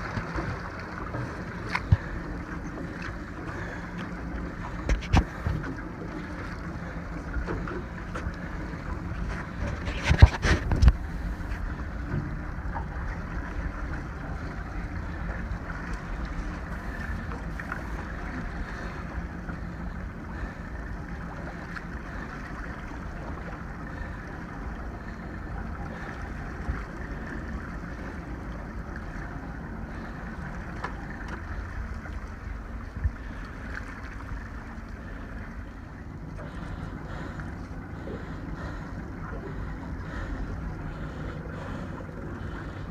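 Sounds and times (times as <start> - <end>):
low rumble: 0.0 - 42.9
water noise: 0.0 - 42.9
wind: 0.0 - 42.9.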